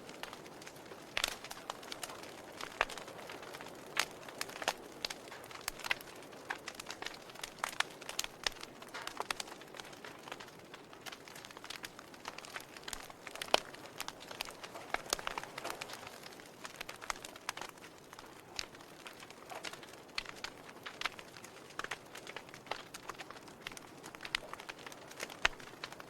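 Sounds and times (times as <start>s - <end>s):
soft hiss of fire: 0.0s - 26.0s
wood fire crackling and popping: 0.0s - 26.0s.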